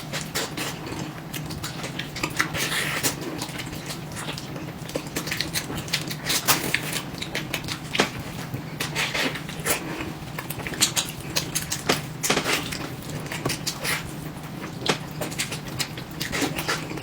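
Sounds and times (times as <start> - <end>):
chewing smacks and clicks: 0.1 - 17.0.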